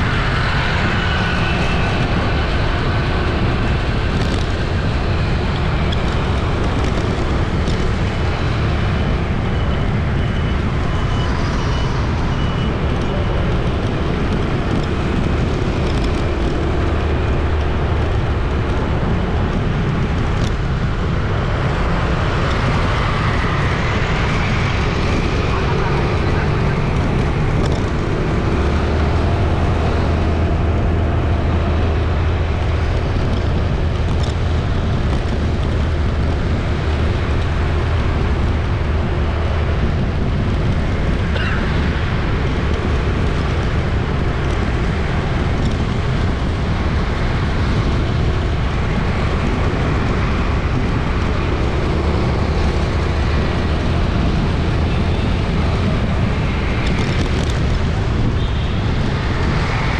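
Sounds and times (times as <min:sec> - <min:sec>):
passing traffic engines and tyres: 0:00.0 - 0:59.9.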